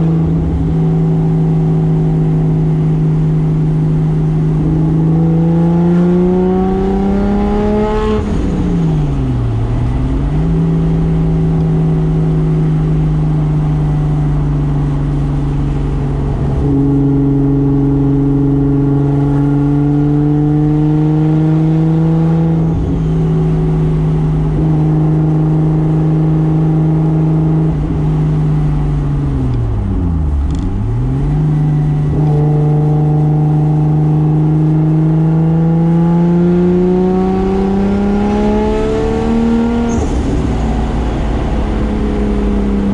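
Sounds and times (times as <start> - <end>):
car engine revving under load: 0.0 - 42.9.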